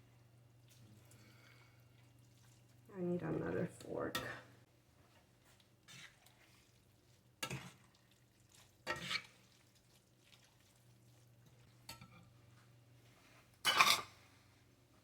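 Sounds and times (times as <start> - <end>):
spoon stirring pasta in pan: 0.5 - 2.9, 3.5 - 14.3.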